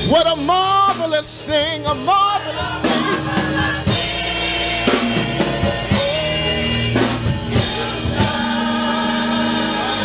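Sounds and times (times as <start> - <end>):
choir singing gospel: 0.0 - 10.0
drum kit beat: 0.0 - 10.0
keyboard: 0.0 - 10.0.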